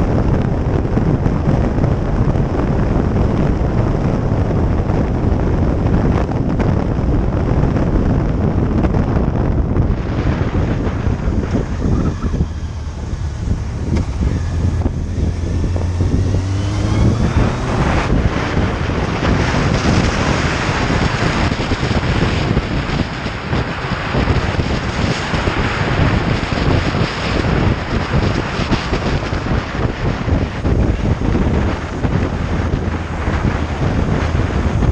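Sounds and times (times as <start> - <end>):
motorcycle engine accelerating: 0.0 - 34.9
wind noise on microphone: 0.0 - 34.9.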